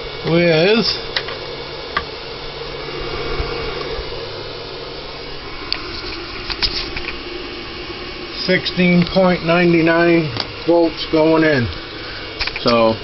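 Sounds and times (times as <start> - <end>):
inverter cooling fan whirring: 0.0 - 13.0.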